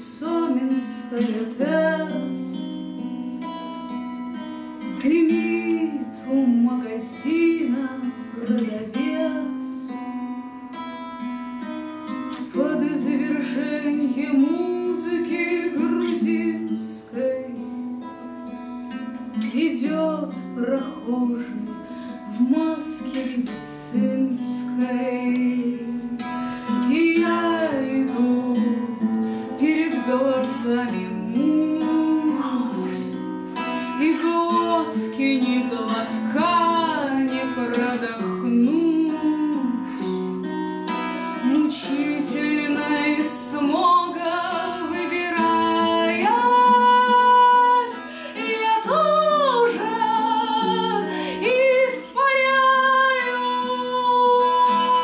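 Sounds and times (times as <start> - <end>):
woman singing: 0.0 - 10.4, 12.3 - 18.2, 18.9 - 55.0
acoustic guitar playing: 0.0 - 55.0.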